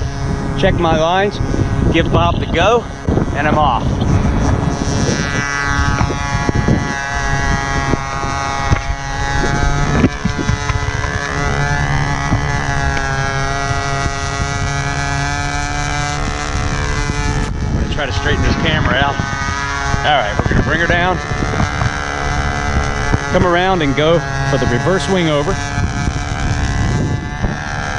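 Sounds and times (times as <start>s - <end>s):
model plane engine running: 0.0s - 27.9s
wind buffeting microphone: 0.0s - 27.9s.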